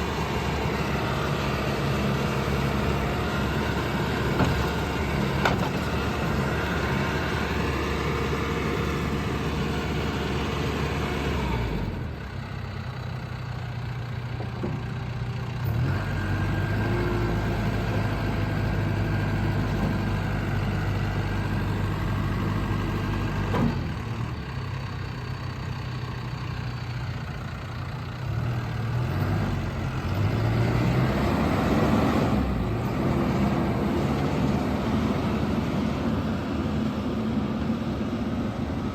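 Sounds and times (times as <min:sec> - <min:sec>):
diesel engine revving: 0:00.0 - 0:14.3, 0:14.9 - 0:38.9.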